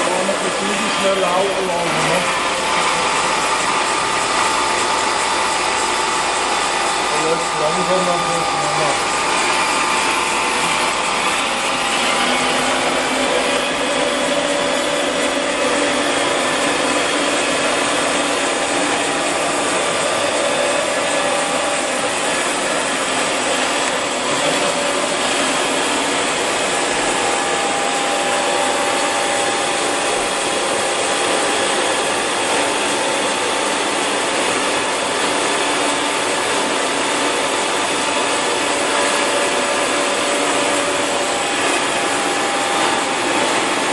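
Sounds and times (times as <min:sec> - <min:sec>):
milling machine motor whirring: 0:00.0 - 0:43.9.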